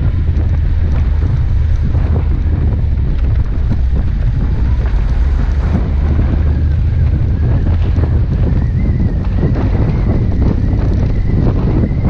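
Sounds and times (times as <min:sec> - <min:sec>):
vehicle engine rumble: 0:00.0 - 0:12.0
wind buffeting microphone: 0:00.0 - 0:12.0.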